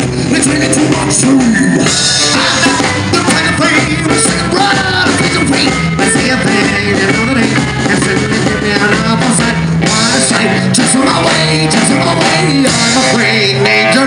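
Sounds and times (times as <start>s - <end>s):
drums: 0.0s - 14.0s
electric guitar: 0.0s - 14.0s
man singing into microphone: 0.2s - 14.0s.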